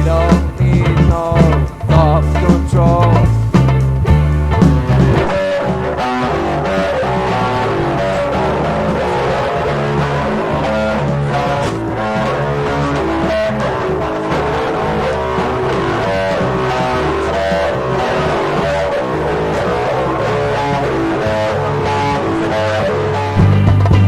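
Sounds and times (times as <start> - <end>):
bass line: 0.0 - 24.0
guitar playing: 0.0 - 24.0.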